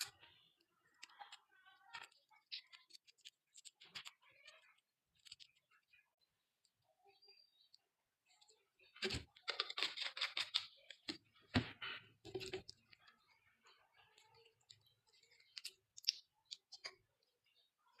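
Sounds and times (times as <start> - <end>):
sticky clicks and crackles: 0.0 - 6.0, 8.3 - 18.0.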